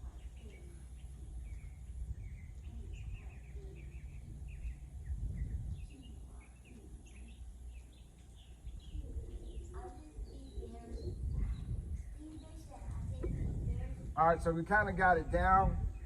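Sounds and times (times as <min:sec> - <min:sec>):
low rumble: 0:00.0 - 0:10.1, 0:10.7 - 0:16.0
small birds chirping: 0:00.0 - 0:16.0.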